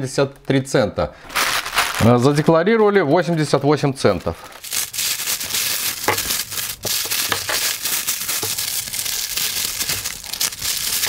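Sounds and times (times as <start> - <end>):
plastic packaging crinkling: 0.3 - 11.0.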